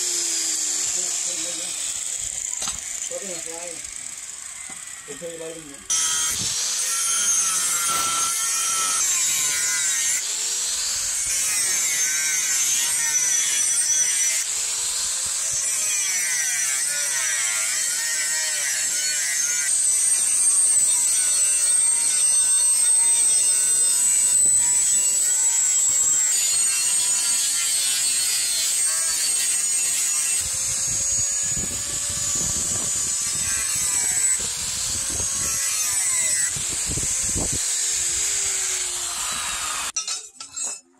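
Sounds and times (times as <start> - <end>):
angle grinder cutting steel: 0.0 - 40.9.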